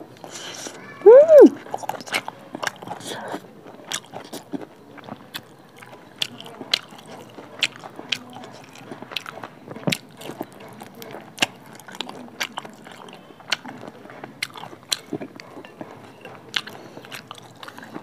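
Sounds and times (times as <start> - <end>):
chewing with wet mouth clicks: 1.6 - 18.0.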